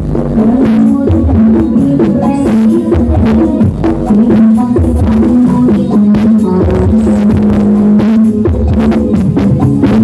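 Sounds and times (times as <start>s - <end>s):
loud music over sound system: 0.0s - 10.0s.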